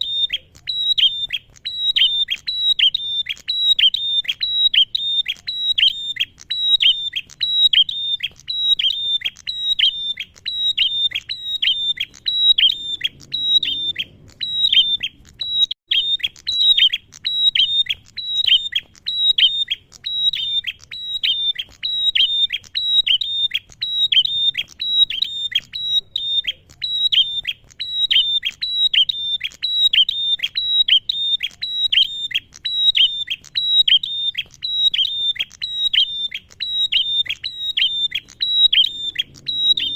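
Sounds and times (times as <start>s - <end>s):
bird calling high sharp notes: 0.0s - 39.9s.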